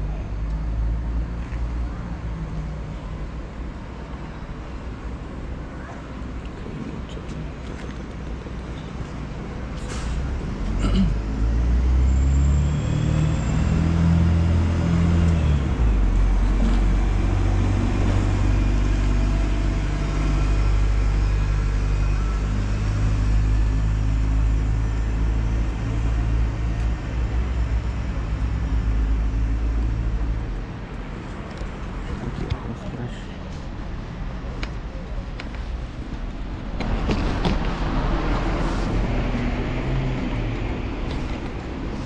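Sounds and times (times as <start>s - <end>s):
city street traffic: 0.0s - 42.0s.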